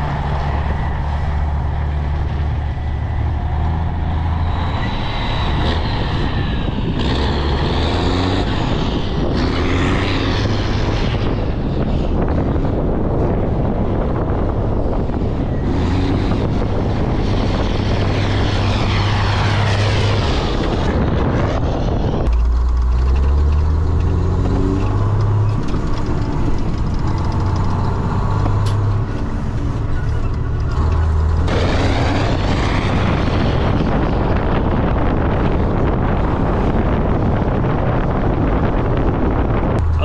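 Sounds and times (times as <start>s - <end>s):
truck diesel engine: 0.0s - 40.0s
wind on microphone: 0.0s - 40.0s.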